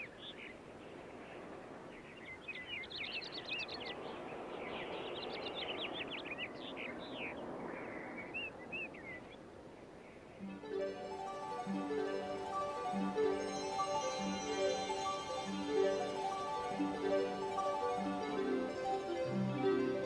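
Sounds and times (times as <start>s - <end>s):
small birds chirping: 0.0s - 20.0s
steady background hiss: 0.0s - 20.0s.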